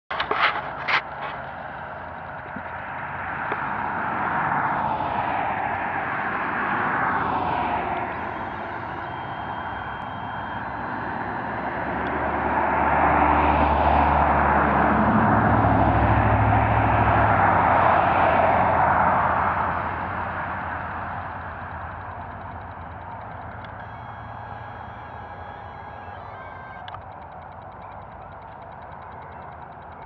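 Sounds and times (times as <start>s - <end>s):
small aircraft engine and propeller: 0.1s - 30.0s.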